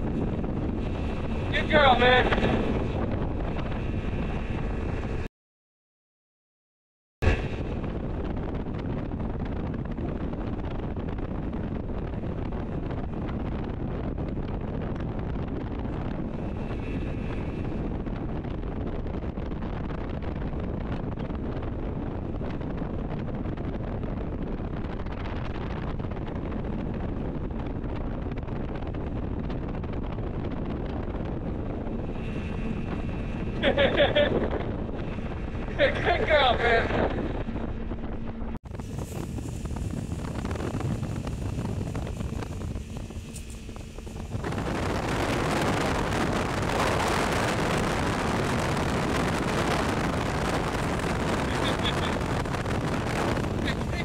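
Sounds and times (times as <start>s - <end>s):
speedboat motor and water rush: 0.0s - 5.3s, 7.2s - 54.0s
wind buffeting microphone: 0.0s - 5.3s, 7.2s - 54.0s.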